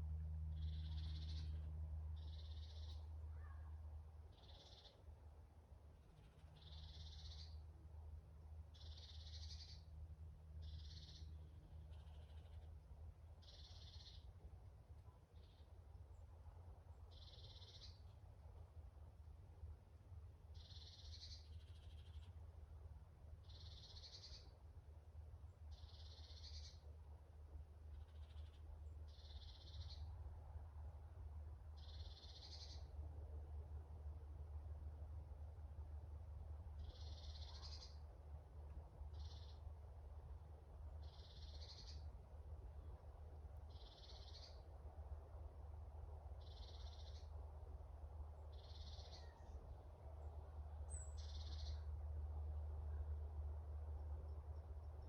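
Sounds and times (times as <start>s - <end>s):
faint low rumble: 0.0s - 55.0s.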